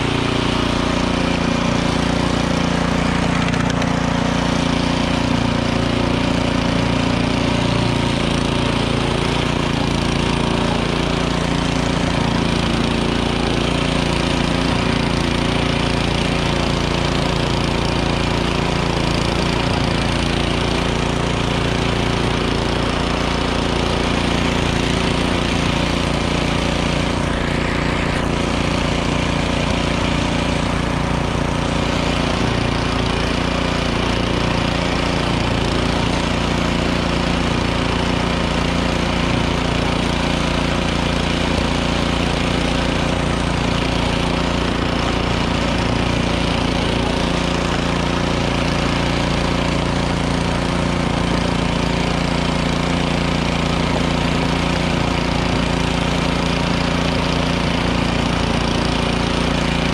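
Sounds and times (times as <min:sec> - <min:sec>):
snowblower engine running: 0:00.0 - 0:59.9
snowblower throwing snow: 0:00.0 - 0:59.9.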